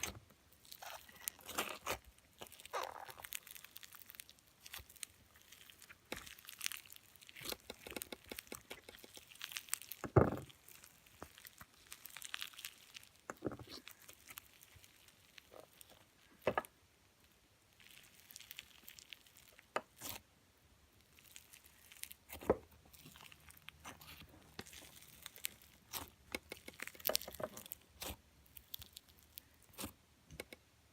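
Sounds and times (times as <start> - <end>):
slime crackling and popping: 0.0 - 16.5, 17.7 - 20.2, 20.9 - 30.6.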